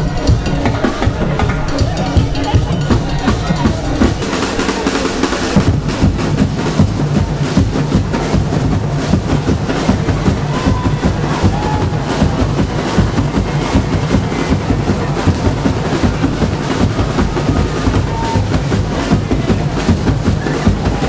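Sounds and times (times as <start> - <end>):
deep bass drums: 0.0 - 21.0
percussion band drumming: 0.0 - 21.0.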